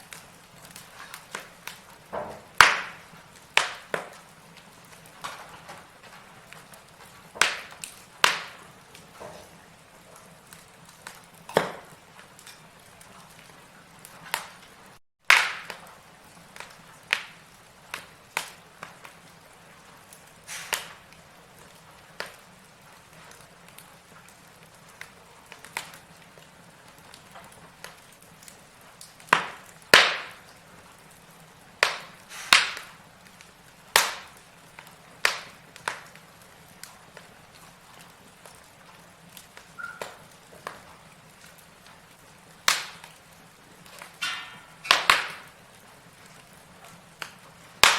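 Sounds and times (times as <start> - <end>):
fire crackling and popping: 0.0 - 47.9
hiss of flame: 0.0 - 47.9.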